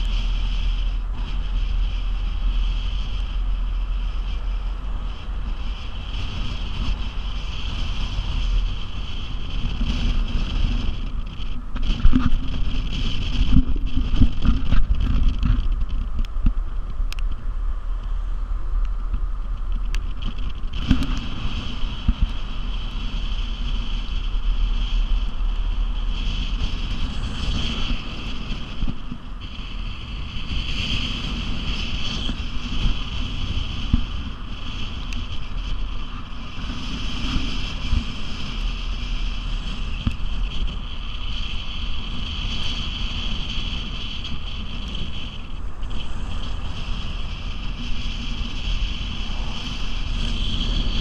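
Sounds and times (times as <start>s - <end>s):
high wind whistling: 0.0s - 51.0s
strong wind buffeting microphone: 0.0s - 51.0s.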